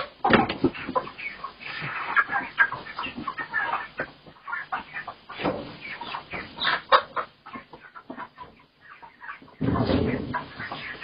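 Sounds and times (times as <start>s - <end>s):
chickens clucking and squawking: 0.0s - 11.0s.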